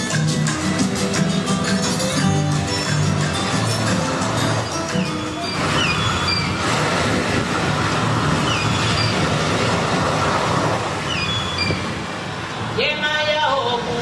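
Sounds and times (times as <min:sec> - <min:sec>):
rough sea surf rushing: 0:00.0 - 0:14.0.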